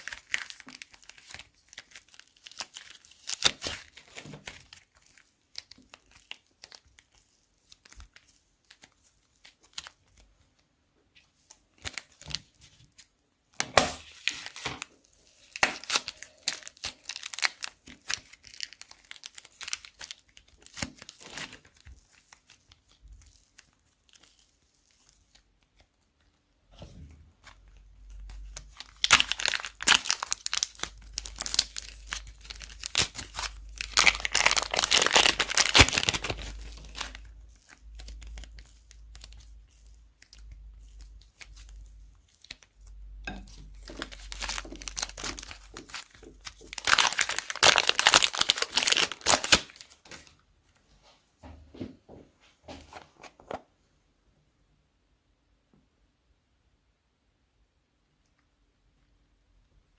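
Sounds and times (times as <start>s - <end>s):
slime crinkling in plastic bags: 0.0s - 10.6s, 11.2s - 13.1s, 13.8s - 26.3s, 27.4s - 50.4s.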